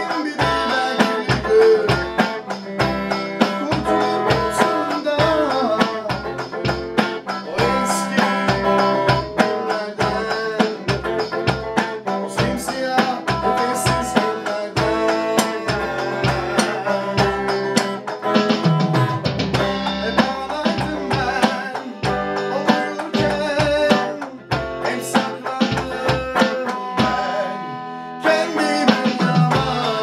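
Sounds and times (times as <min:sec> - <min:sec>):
electronic drum beat: 0:00.0 - 0:27.5, 0:28.3 - 0:30.0
electric guitar melody: 0:00.0 - 0:30.0.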